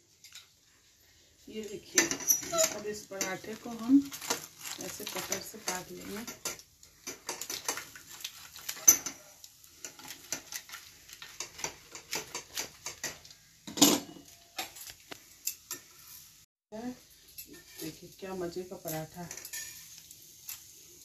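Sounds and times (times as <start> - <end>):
utensils clicking against pan: 1.6 - 16.0, 17.3 - 20.7.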